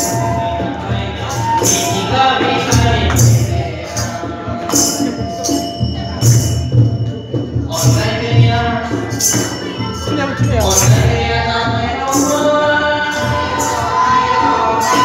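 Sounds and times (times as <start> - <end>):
women singing together: 0.0 - 5.6, 7.8 - 15.0
jingling percussion: 0.0 - 15.0.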